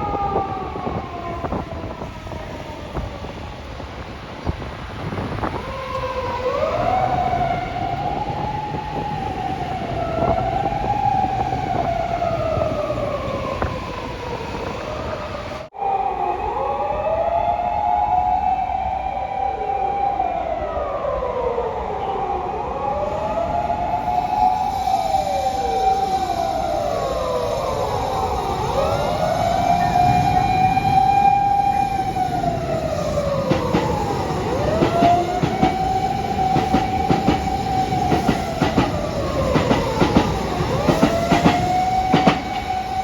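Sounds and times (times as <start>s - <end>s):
emergency sirens wailing: 0.0s - 43.0s.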